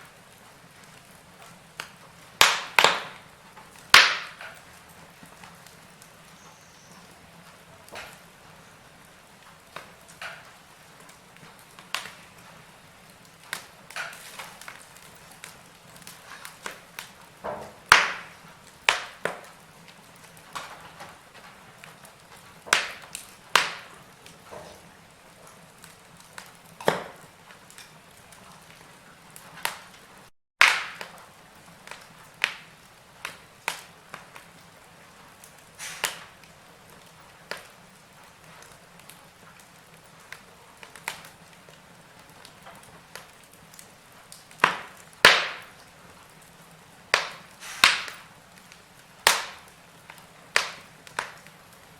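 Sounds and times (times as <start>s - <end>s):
wood fire crackling: 0.0s - 51.9s
sharp pops and snaps: 0.1s - 7.2s, 9.5s - 24.8s, 29.4s - 34.6s, 35.4s - 45.9s, 47.1s - 51.6s.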